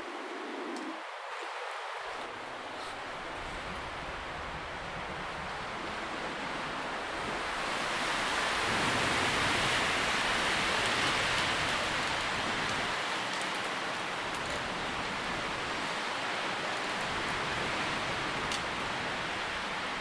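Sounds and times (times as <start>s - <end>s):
wind rustling tree leaves: 0.0s - 20.0s.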